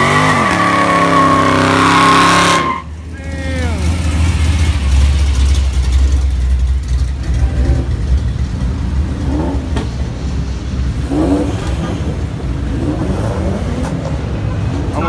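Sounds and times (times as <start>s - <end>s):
cars driving past rumbling: 0.0s - 15.0s.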